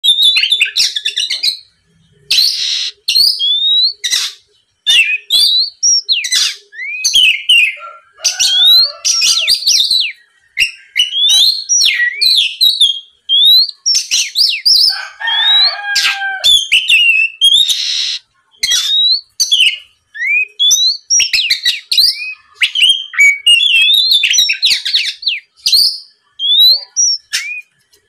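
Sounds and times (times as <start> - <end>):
magpie-robin singing: 0.0 - 28.0.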